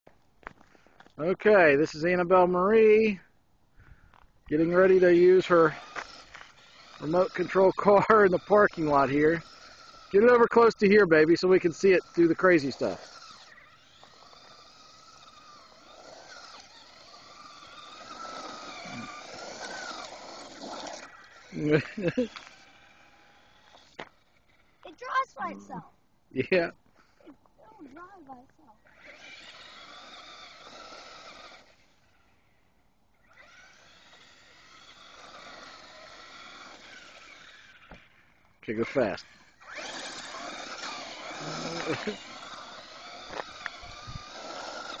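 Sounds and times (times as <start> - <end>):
toy car electric motor whining: 4.6 - 25.8, 27.0 - 45.0.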